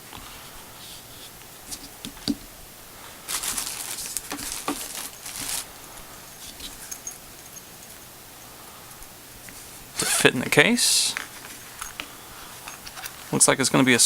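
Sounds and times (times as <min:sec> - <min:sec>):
rustling and scraping: 0:00.0 - 0:13.6.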